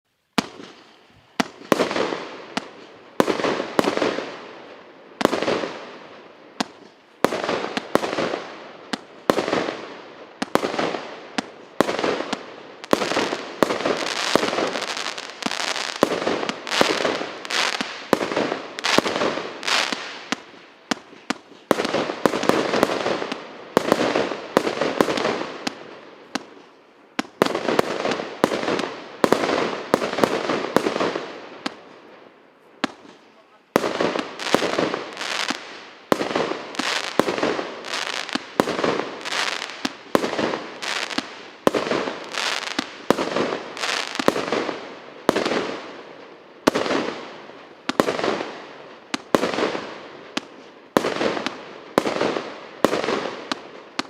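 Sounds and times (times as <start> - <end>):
firework crackle: 0.3 - 54.0.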